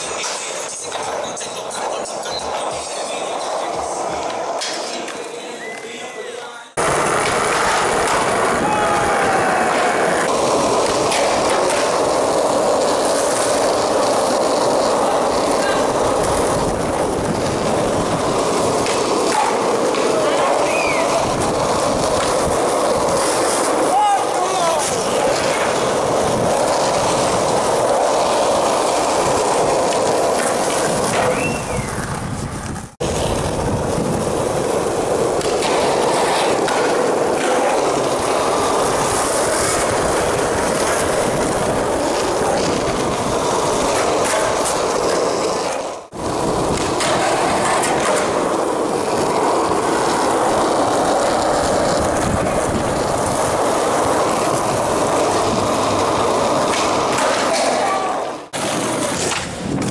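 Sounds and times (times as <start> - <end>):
skateboard wheels rolling on concrete: 0.0 - 59.9.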